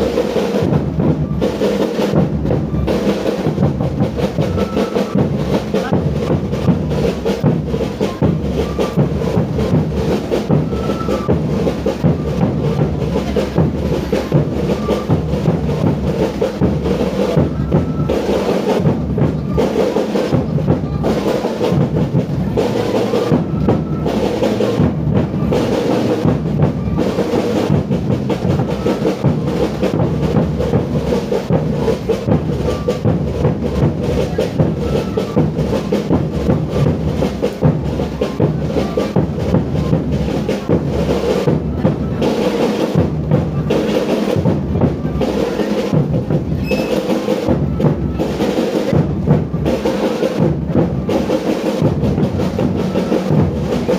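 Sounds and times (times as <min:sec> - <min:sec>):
bass drum and snare beat: 0:00.0 - 0:53.9.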